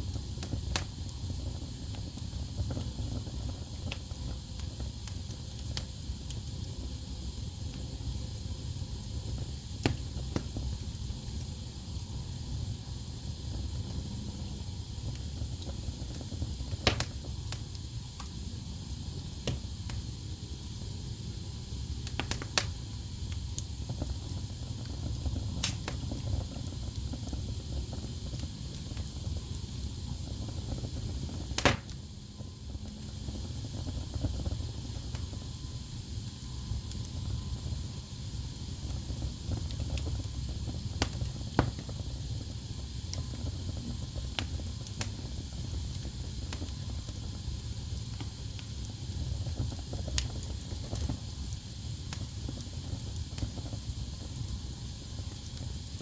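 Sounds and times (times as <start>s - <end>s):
burning logs popping: 0.0s - 56.0s
flames rumbling and hissing: 0.0s - 56.0s.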